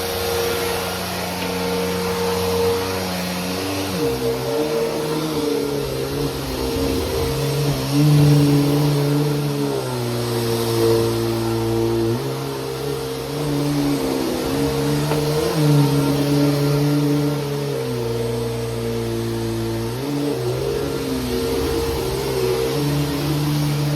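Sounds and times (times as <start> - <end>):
vacuum cleaner motor hum: 0.0 - 23.9.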